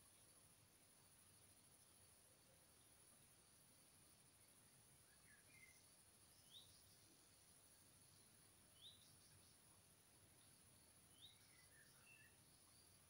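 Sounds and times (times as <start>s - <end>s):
soft bird chirps: 0.0s - 13.0s
steady high-pitched hiss: 0.0s - 13.0s.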